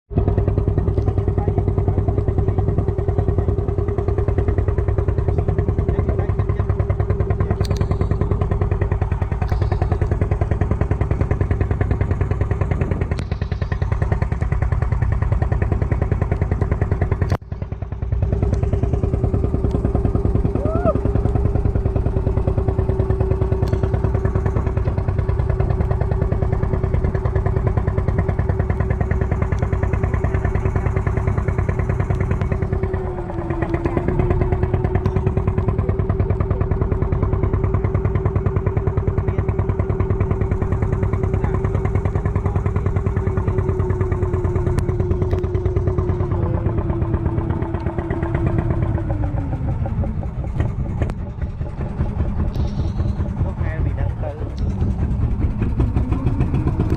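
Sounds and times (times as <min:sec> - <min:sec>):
small boat engine running: 0:00.1 - 0:56.9.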